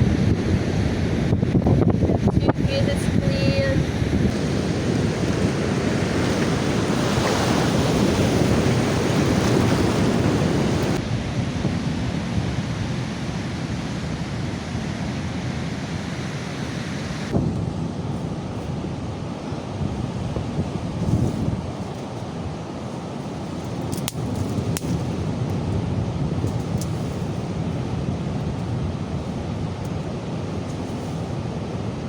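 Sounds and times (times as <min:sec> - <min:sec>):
beach surf: 0:00.0 - 0:32.0
wind rushing over microphone: 0:00.0 - 0:32.0.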